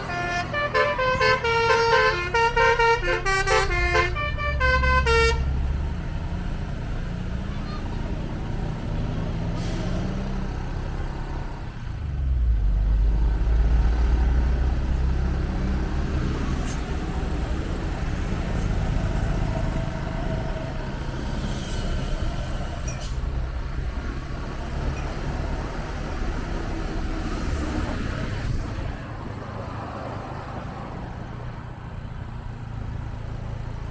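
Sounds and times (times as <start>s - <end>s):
vehicle engine and road noise: 0.0s - 33.9s.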